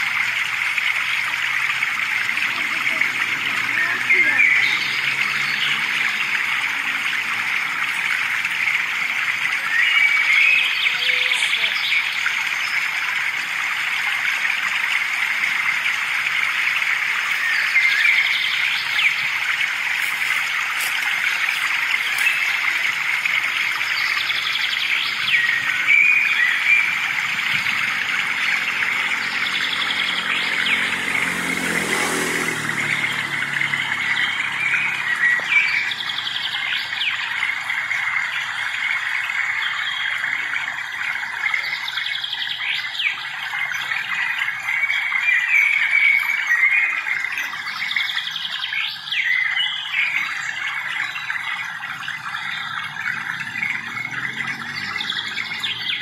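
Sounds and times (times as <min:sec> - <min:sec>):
birds chirping: 0:00.0 - 0:56.0
vehicle passing: 0:00.0 - 0:56.0.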